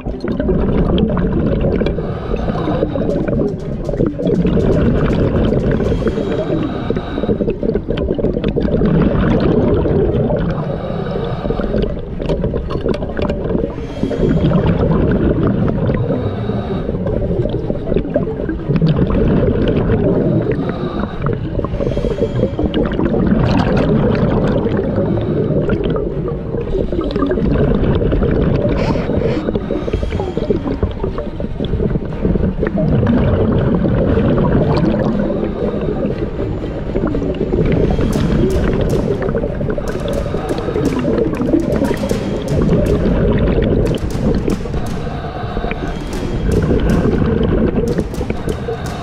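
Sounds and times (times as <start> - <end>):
underwater rumble and gurgling: 0.0 - 49.0.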